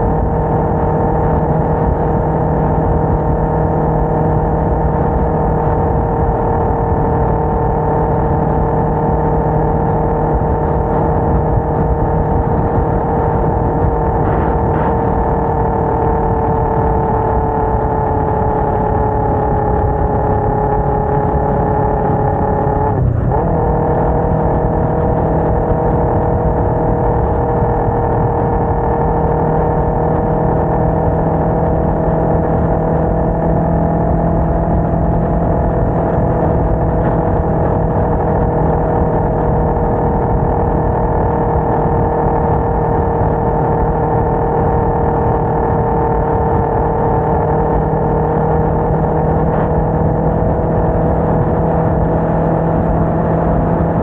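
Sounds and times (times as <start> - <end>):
motorcycle engine cruising: 0.0 - 54.0
wind rush: 0.0 - 54.0.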